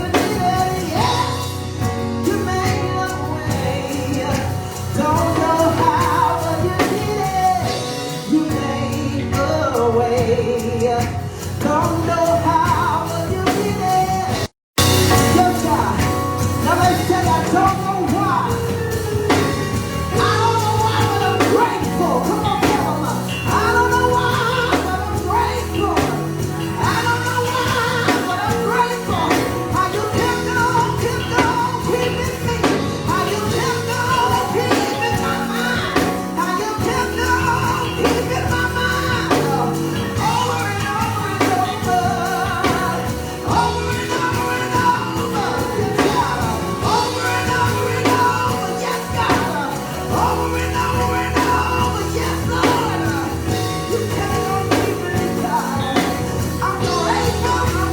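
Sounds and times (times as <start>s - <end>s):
people singing: 0.0s - 11.1s, 11.8s - 57.9s
worship band playing: 0.0s - 57.9s.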